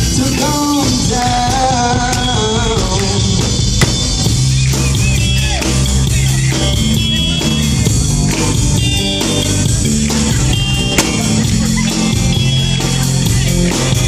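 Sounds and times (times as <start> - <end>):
bass guitar: 0.0 - 14.0
drum kit beat: 0.0 - 14.0
guitar: 0.0 - 14.0.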